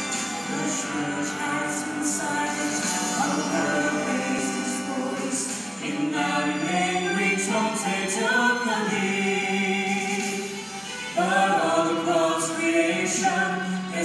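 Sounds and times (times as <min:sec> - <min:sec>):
vocal group singing gospel harmony: 0:00.0 - 0:14.0.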